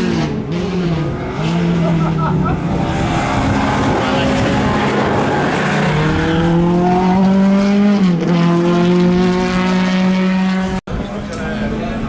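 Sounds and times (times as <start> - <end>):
race car engine accelerating: 0.0 - 10.8.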